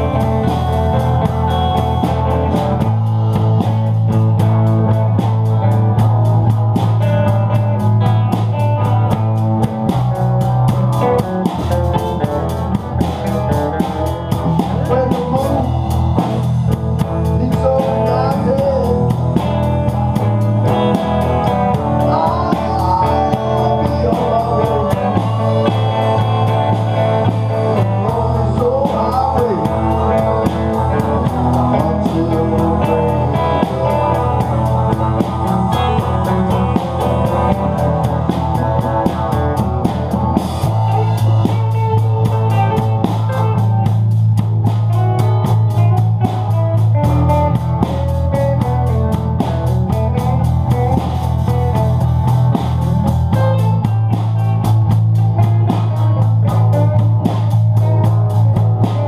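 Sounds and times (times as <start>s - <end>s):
blues band playing: 0.0s - 59.0s
electric guitar bending notes: 0.0s - 59.0s
steady bass line: 0.0s - 59.0s.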